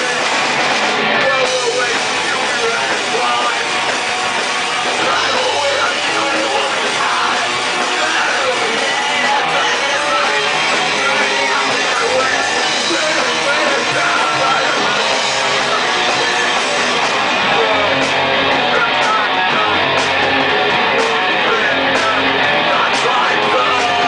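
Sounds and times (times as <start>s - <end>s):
bass guitar: 0.0s - 24.0s
distorted electric guitar: 0.0s - 24.0s
drums and cymbals: 0.0s - 24.0s
shouted vocals: 4.6s - 24.0s.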